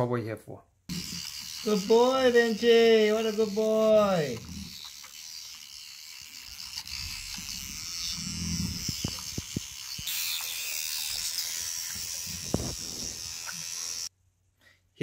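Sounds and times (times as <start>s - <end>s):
electric toothbrush buzzing: 0.9s - 14.1s.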